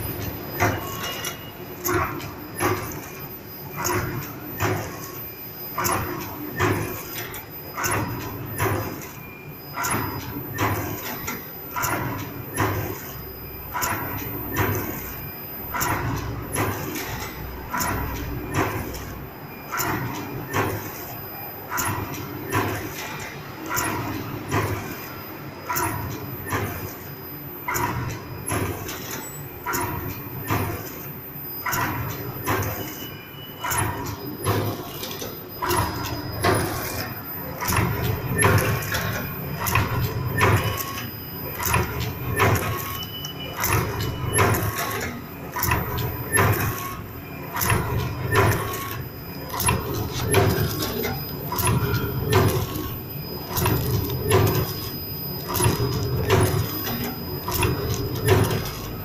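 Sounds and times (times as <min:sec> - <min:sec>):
packing machine humming and clicking: 0:00.0 - 0:59.0.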